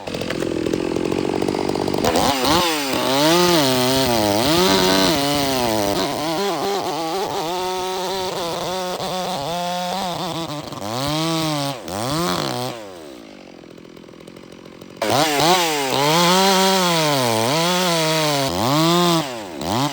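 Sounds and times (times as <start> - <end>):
chainsaw revving and idling: 0.0 - 19.9.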